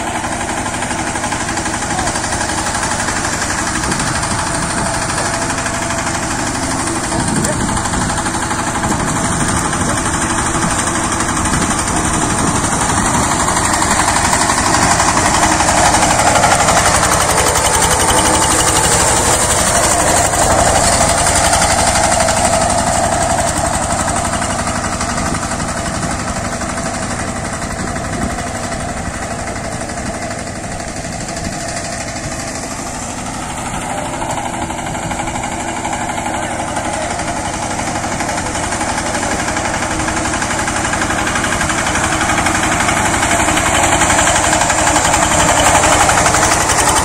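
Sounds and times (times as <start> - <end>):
power tiller engine chugging: 0.0 - 47.0.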